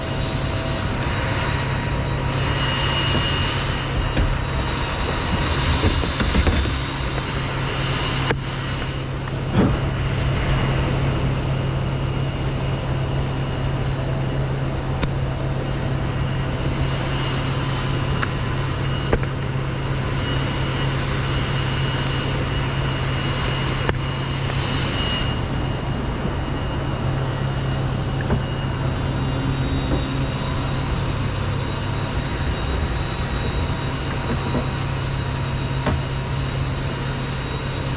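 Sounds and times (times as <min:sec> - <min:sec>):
engine running steadily: 0:00.0 - 0:37.9.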